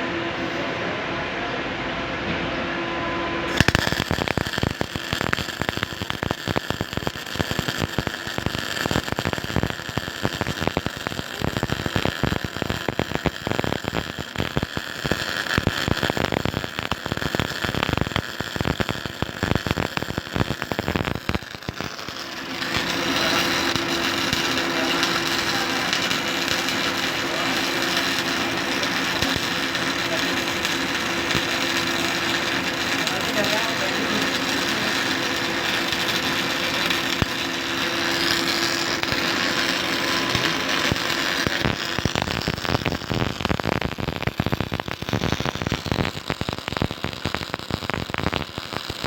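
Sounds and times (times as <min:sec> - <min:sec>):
steady machine hum: 0:00.0 - 0:49.0
welding arc crackling: 0:03.5 - 0:49.0.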